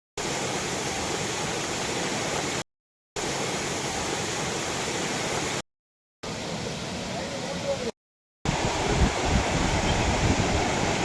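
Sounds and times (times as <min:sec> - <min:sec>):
waterfall pouring and splashing: 0:00.2 - 0:02.6, 0:03.2 - 0:05.6, 0:06.2 - 0:11.0.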